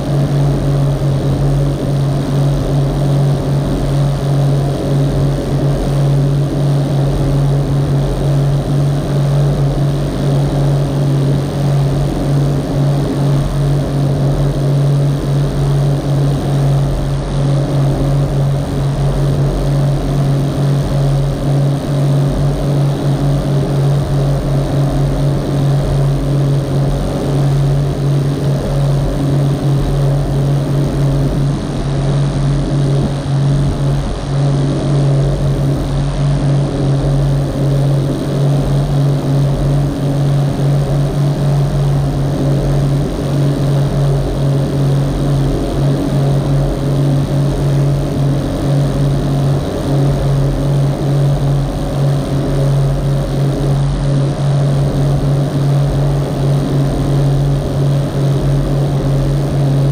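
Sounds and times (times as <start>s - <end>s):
boat engine droning: 0.0s - 59.9s
water rushing along hull: 0.0s - 59.9s.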